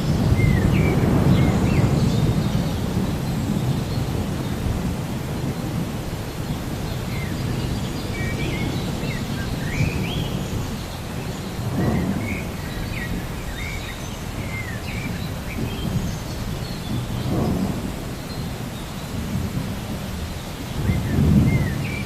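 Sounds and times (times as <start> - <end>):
birds chirping: 0.0 - 22.0
low rumble of thunder: 0.0 - 22.0
rain: 0.0 - 22.0.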